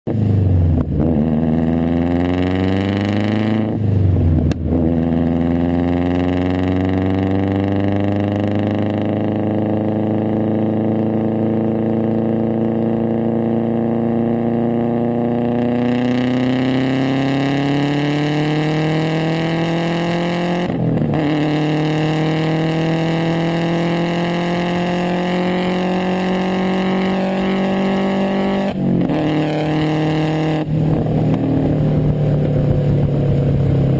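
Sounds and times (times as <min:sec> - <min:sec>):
car engine accelerating hard: 0:00.1 - 0:33.9.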